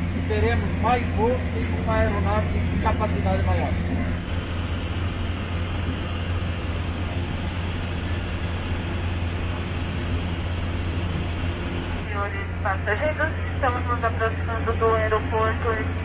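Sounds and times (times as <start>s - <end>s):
turboprop engine drone: 0.0s - 16.0s.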